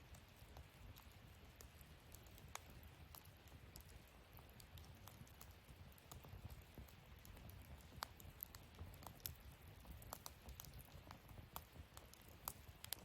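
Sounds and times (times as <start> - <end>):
wood fire crackling: 0.0 - 13.0
sharp pops from fire: 0.1 - 13.0.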